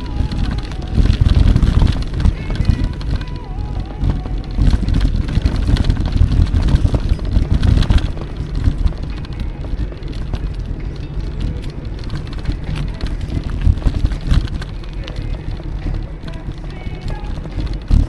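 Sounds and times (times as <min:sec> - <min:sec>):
bike clicks and rattles: 0:00.0 - 0:18.0
loud low rumble: 0:00.0 - 0:18.0
wind buffeting microphone: 0:00.0 - 0:18.0.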